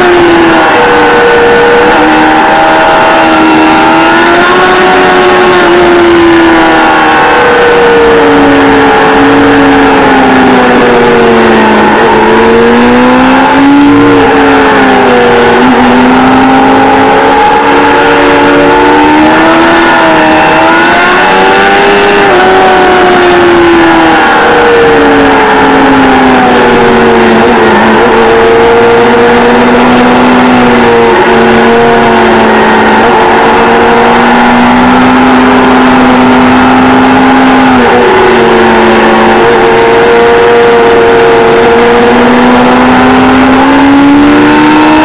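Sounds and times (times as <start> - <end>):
motorcycle engine at high revs: 0.0 - 45.0.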